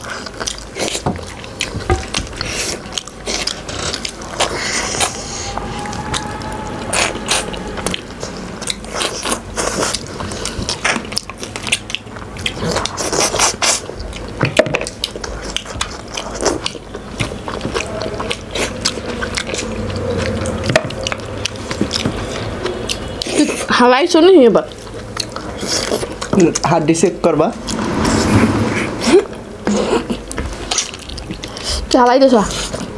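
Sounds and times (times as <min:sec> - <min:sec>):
chewing meat and bone: 0:00.0 - 0:27.2, 0:30.3 - 0:32.9.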